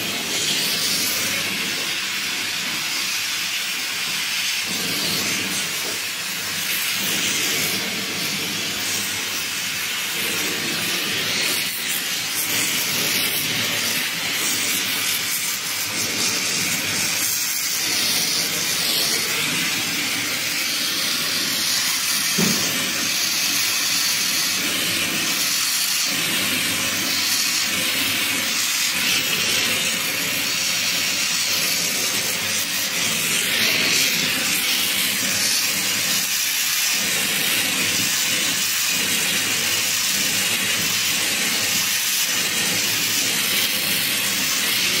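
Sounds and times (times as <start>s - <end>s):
brazing torch flame hissing: 0.0s - 45.0s.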